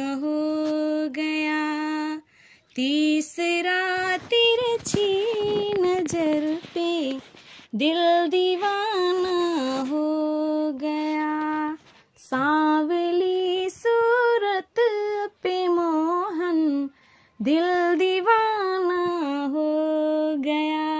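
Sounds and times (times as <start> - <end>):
woman singing devotional song: 0.0 - 20.9.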